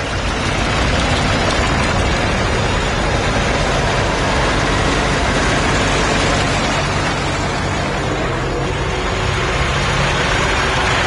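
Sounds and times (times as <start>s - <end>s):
constant rushing noise: 0.0s - 11.0s
tractor engine running: 0.0s - 11.0s.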